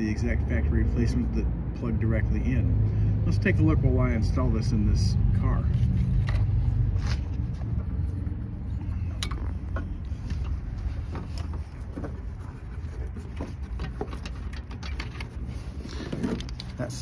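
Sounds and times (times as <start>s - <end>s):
steady low rumble: 0.2s - 17.0s.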